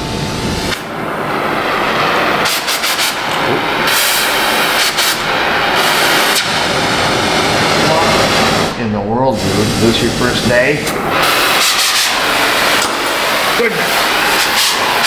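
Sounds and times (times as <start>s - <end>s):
cutting torch hissing: 0.4s - 15.0s.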